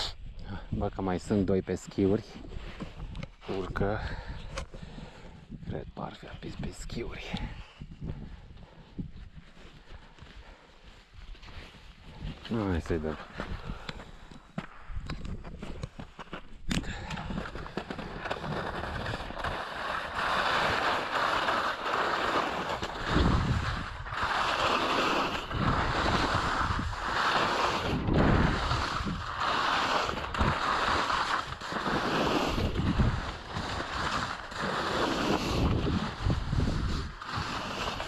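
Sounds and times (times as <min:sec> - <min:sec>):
wind rumbling on microphone: 0:00.0 - 0:38.0
skis sliding on snow: 0:01.3 - 0:05.4, 0:08.6 - 0:14.8, 0:15.4 - 0:38.0.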